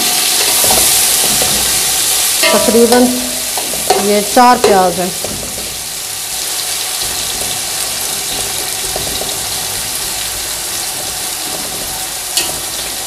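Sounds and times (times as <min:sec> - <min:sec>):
metal spatula stirring in pot: 0:00.0 - 0:13.0
onions sizzling in hot oil: 0:00.0 - 0:13.0.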